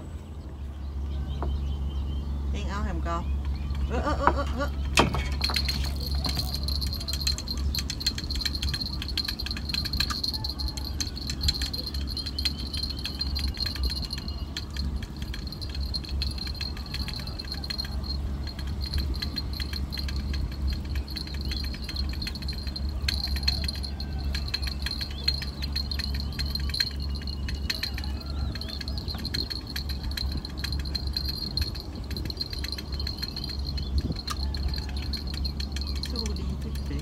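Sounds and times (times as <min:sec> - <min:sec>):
low hum: 0:00.0 - 0:37.0
fishing gear jingling and rattling: 0:03.4 - 0:37.0.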